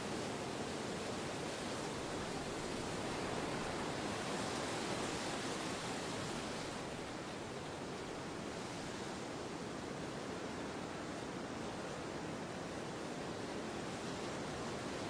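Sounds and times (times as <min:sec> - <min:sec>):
steady wind: 0:00.0 - 0:15.0.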